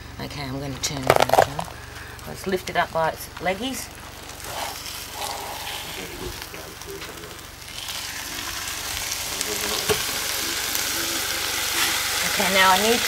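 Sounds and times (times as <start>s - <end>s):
meat sizzling on stove: 1.1s - 13.0s.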